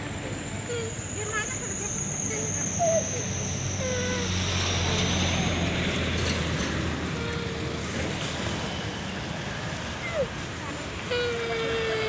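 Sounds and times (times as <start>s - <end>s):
passing motorbikes and cars: 0.0s - 11.1s.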